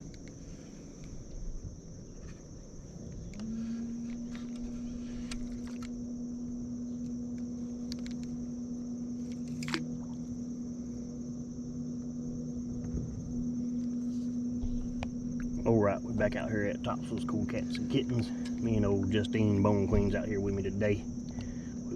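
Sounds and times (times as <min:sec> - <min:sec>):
high insect drone: 0:00.0 - 0:21.9
steady low hum: 0:00.0 - 0:21.9.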